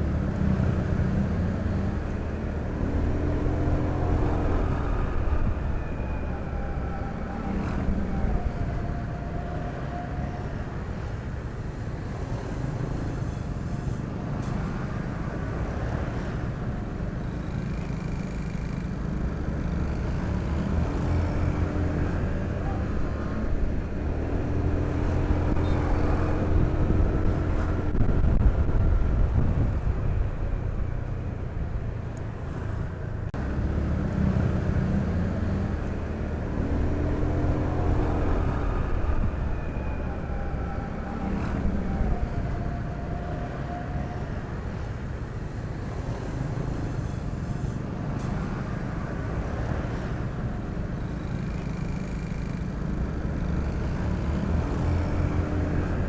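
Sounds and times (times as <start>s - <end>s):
surrounding traffic: 0.0s - 56.0s.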